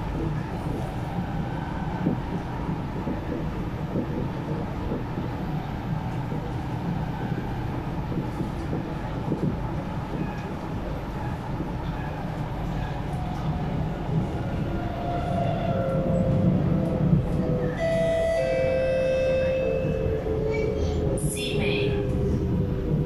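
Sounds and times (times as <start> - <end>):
train wheels and motors rumbling: 0.0 - 23.0.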